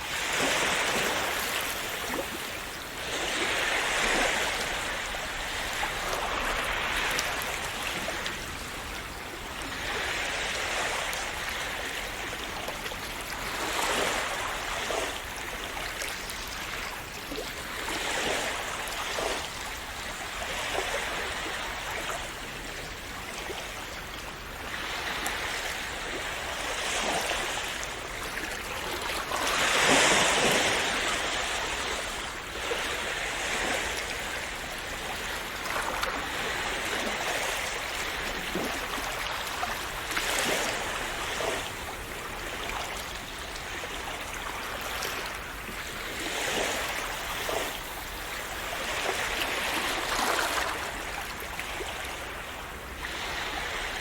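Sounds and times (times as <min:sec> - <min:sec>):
sea waves splashing on shore: 0:00.0 - 0:54.0.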